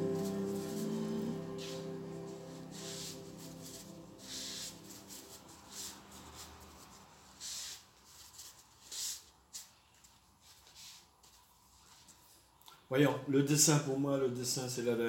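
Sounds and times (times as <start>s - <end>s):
brush swishing on wet paper: 0.0s - 12.4s.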